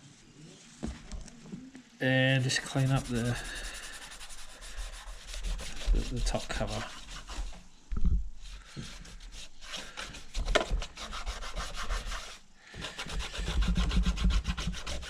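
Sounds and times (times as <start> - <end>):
wiping and rubbing on plastic: 2.3 - 15.0.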